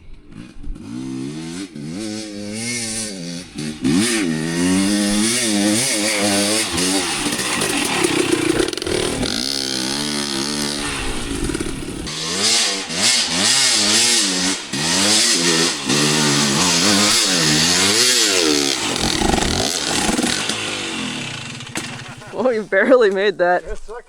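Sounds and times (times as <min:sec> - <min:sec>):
two-stroke dirt bike engine revving: 0:00.0 - 0:23.0.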